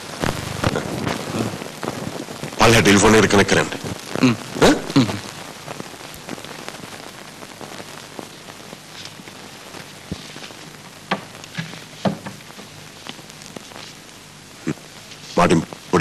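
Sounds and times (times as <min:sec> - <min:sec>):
film soundtrack hiss and crackle: 0:00.0 - 0:16.0.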